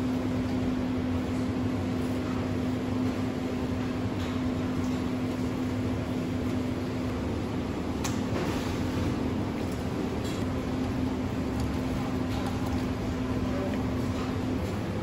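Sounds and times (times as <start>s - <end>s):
kitchen machinery humming: 0.0s - 15.0s.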